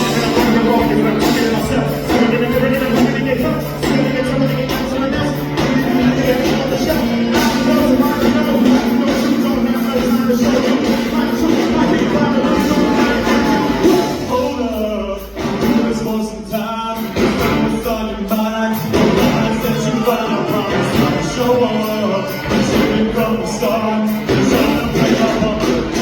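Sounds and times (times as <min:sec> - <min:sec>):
rock music with singing: 0:00.0 - 0:26.0.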